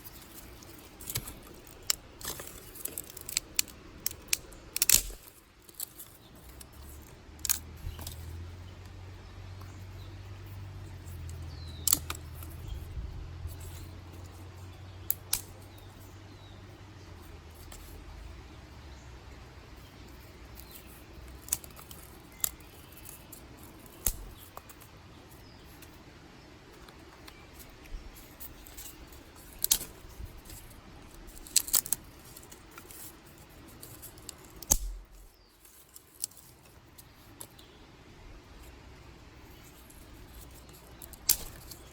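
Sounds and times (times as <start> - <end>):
dry sticks snapping: 0.0 - 18.5, 19.8 - 25.9, 26.7 - 37.7, 39.4 - 41.9.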